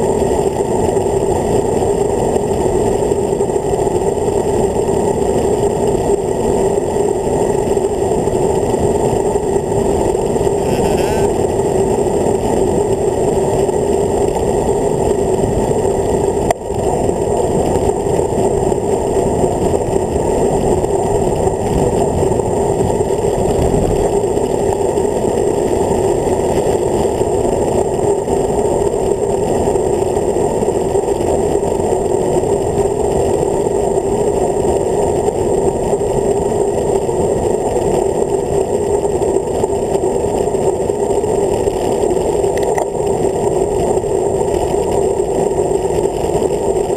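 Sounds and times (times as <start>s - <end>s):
wind rumble on camera: 0.0s - 46.9s.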